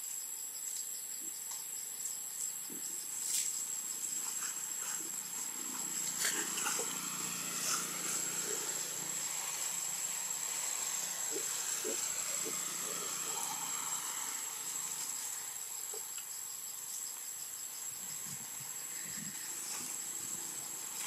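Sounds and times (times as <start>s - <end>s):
forest insects droning: 0.0s - 21.0s
hiss of ambience: 0.0s - 21.0s.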